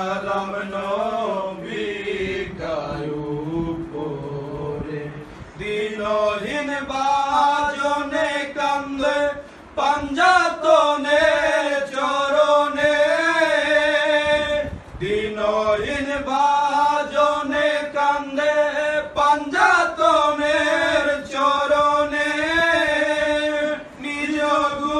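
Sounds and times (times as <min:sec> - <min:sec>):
men singing unaccompanied: 0:00.0 - 0:24.9.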